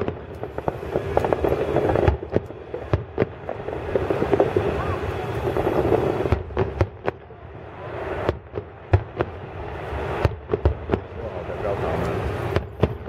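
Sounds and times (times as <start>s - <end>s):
fireworks bursting with sharp bangs: 0.0s - 13.0s.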